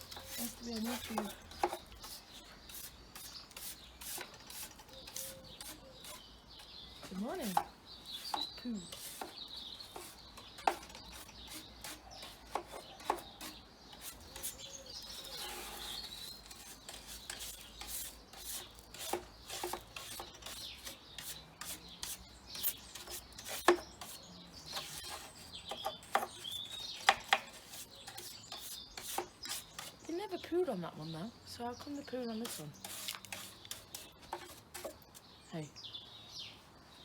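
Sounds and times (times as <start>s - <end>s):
brush scrubbing bird feeder: 0.0s - 30.9s, 31.7s - 35.7s
small birds chirping: 0.0s - 37.0s.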